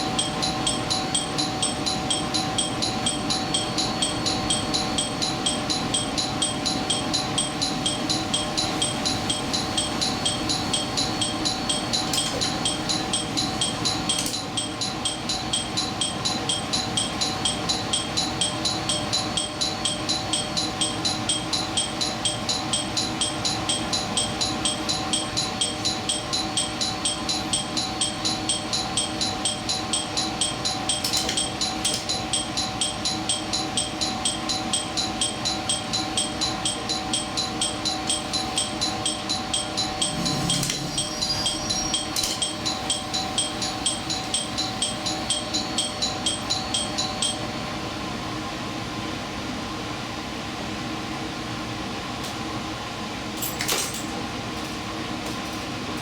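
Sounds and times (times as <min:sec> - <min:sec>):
level-crossing warning bell ringing: 0:00.0 - 0:48.5.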